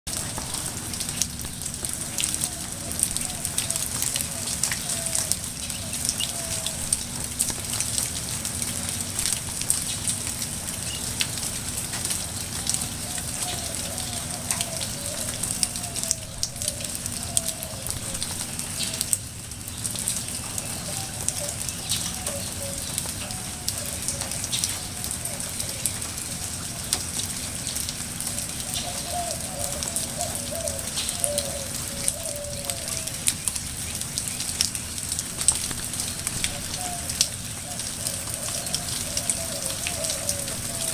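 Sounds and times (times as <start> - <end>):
heavy rain hissing: 0.1 - 40.9
raindrops crackling on surfaces: 0.1 - 40.9.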